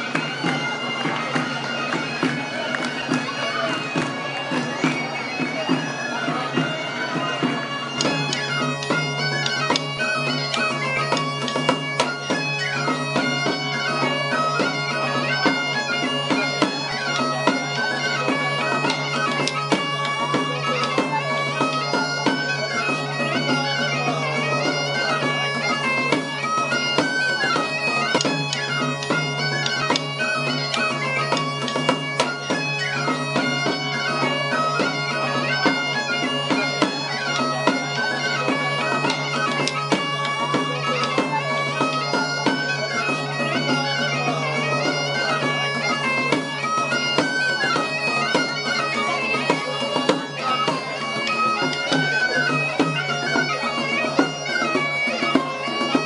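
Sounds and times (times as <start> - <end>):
bagpipe melody over drone: 0.0 - 56.0.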